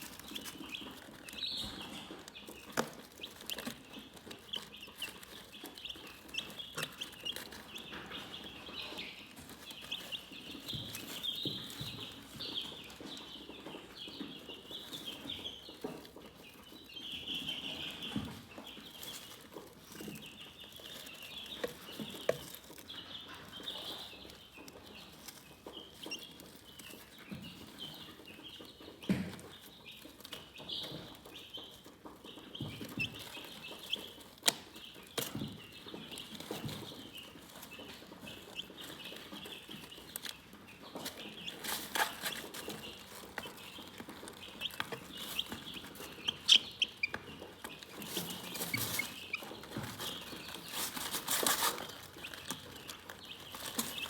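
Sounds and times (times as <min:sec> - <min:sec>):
chicken clucks: 0:00.0 - 0:54.0
chickens chirping: 0:00.0 - 0:54.0.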